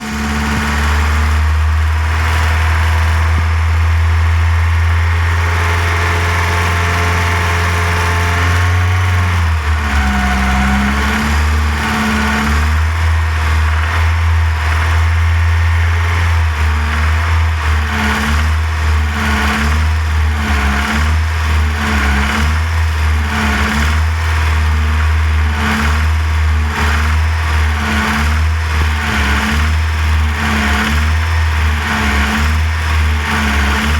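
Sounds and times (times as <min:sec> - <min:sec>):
petrol engine running: 0:00.0 - 0:33.9.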